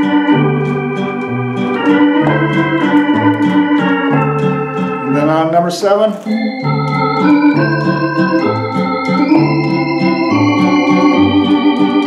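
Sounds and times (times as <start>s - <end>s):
moving bass line: 0.0s - 5.5s, 6.3s - 12.0s
organ chords: 0.0s - 12.0s.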